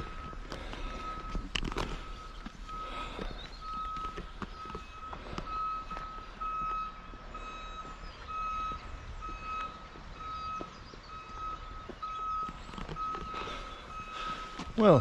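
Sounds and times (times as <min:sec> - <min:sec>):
truck reversing alarm beeping: 0:00.0 - 0:15.0.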